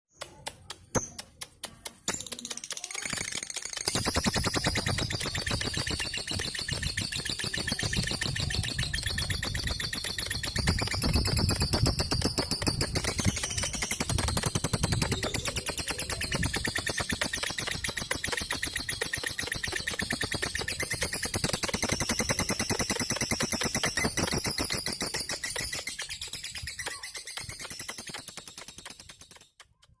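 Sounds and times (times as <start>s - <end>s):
lovebird chirping rapidly: 2.3s - 29.7s.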